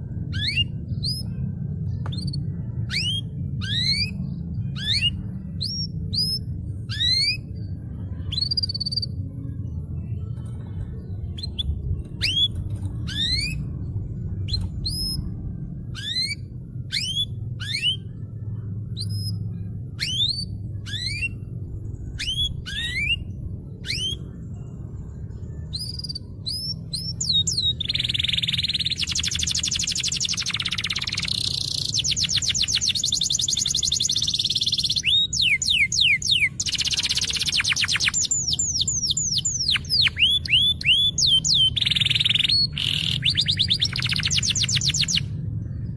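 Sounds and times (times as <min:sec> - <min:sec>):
canary singing: 0:00.0 - 0:09.6, 0:10.4 - 0:45.6
low rumble: 0:00.0 - 0:45.9.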